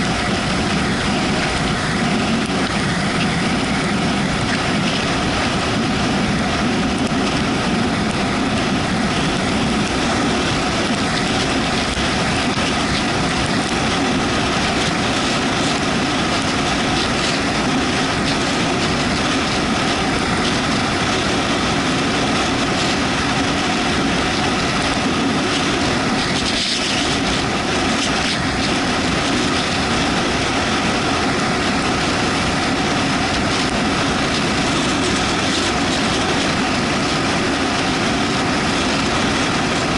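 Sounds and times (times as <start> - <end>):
motorcycle engine running: 0.0 - 39.9
road noise on wet road: 0.0 - 39.9
wind rushing: 0.0 - 39.9.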